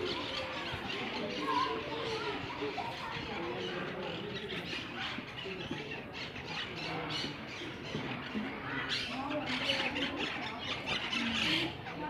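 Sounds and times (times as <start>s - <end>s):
parrots calling: 0.0s - 12.0s.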